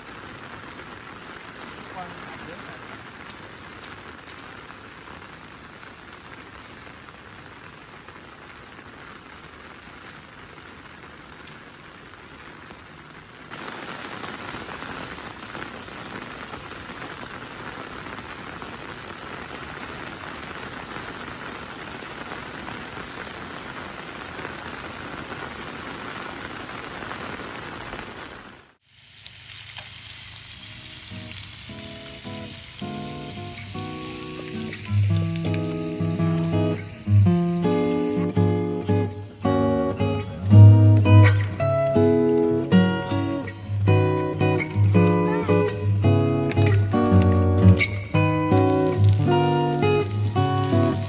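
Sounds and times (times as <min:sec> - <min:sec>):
rain falling on a surface: 0:00.0 - 0:51.0.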